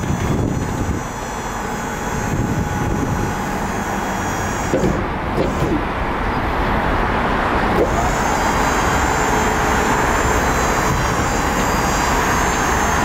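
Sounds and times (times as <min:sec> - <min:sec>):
high whine: 0:00.0 - 0:13.0
hydraulic pump running: 0:00.0 - 0:13.0.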